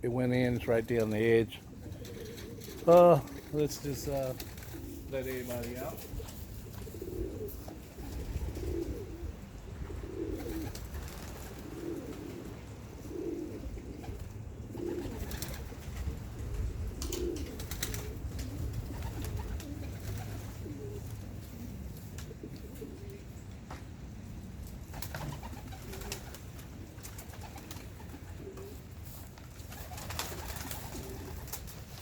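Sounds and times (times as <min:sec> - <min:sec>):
low wind rumble: 0:00.0 - 0:29.4
pigeons cooing: 0:00.6 - 0:23.4, 0:24.2 - 0:32.0.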